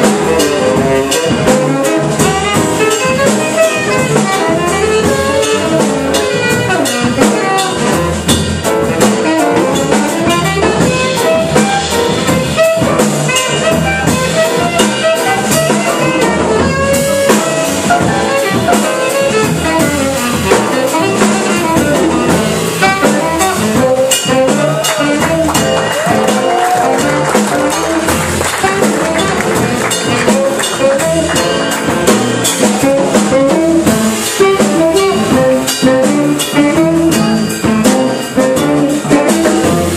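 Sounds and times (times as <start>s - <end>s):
double bass: 0.0s - 39.9s
drum kit: 0.0s - 39.9s
saxophone lead line: 0.0s - 39.9s.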